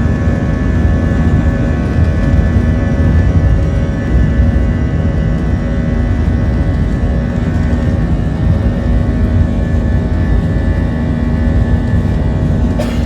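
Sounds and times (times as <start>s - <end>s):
jet engine rumble with whine: 0.0s - 13.0s.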